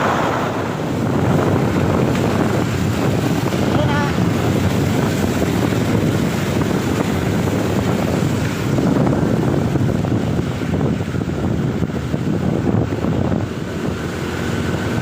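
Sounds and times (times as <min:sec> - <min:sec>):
road traffic rumble: 0:00.0 - 0:15.0
wind buffeting microphone: 0:00.0 - 0:15.0.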